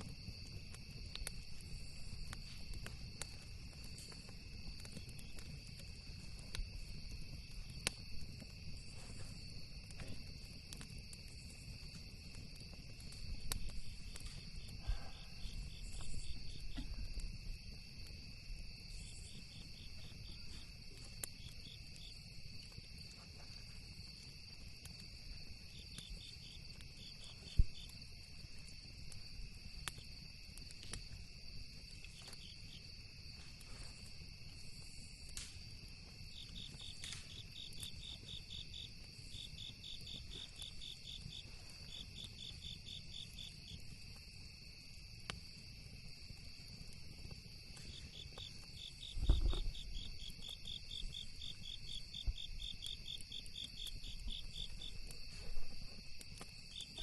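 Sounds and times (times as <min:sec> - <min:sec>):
campfire crackling: 0:00.0 - 0:57.0
crickets chirping: 0:00.0 - 0:57.0
insect trill: 0:00.0 - 0:57.0.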